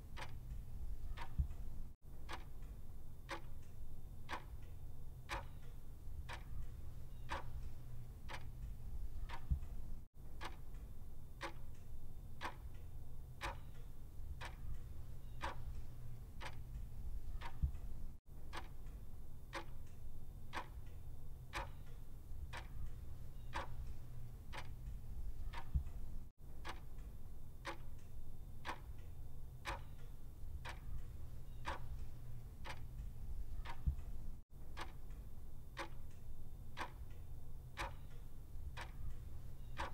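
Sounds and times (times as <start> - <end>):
low steady hum: 0.0 - 39.9
clock ticking: 0.1 - 12.8, 13.4 - 39.9.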